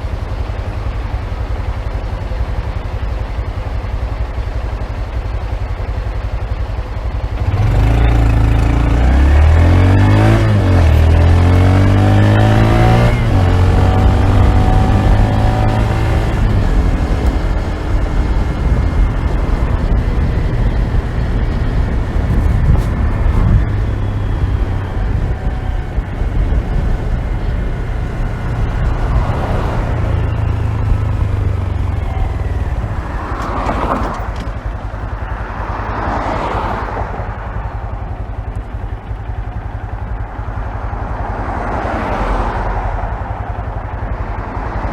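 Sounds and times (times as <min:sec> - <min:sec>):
muffled motorcycle engine revving: 0:00.0 - 0:44.9.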